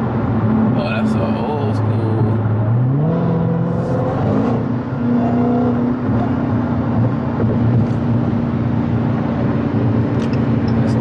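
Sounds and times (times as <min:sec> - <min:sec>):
car engine droning: 0:00.0 - 0:11.0
road noise: 0:00.0 - 0:11.0.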